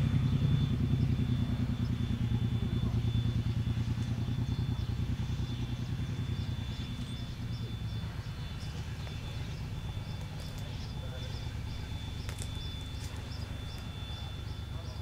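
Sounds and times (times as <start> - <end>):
low rumble: 0.0 - 15.0
steam locomotive exhaust beats: 0.0 - 15.0.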